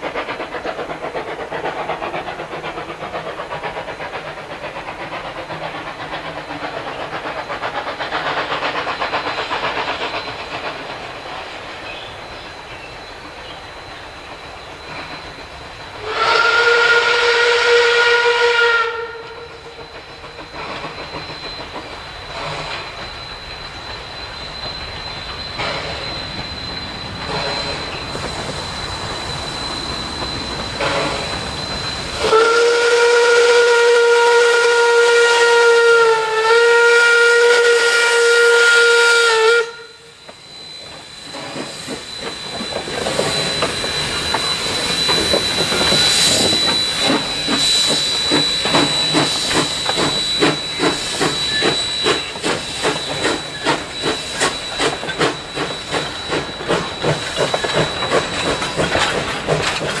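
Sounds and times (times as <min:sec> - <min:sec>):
train running rhythmic beat: 0:00.0 - 1:00.0
steam locomotive whistle: 0:05.8 - 0:59.7.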